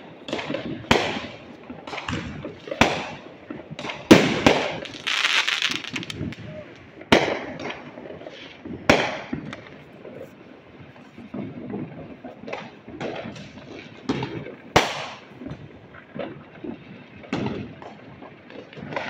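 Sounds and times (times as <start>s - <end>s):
fireworks bangs with echo: 0.0s - 10.2s, 11.4s - 19.0s
fireworks pops and crackling: 0.0s - 19.0s.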